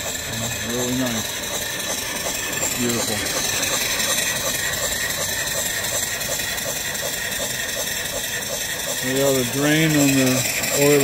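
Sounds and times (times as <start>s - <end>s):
steam engine running: 0.0s - 11.0s
steam hiss: 0.0s - 11.0s.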